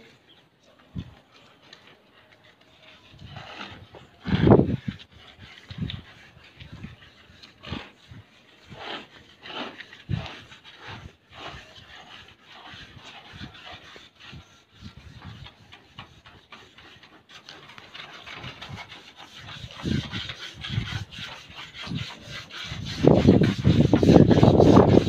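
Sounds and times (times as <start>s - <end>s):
scraping and rubbing on tiles: 1.0s - 25.0s.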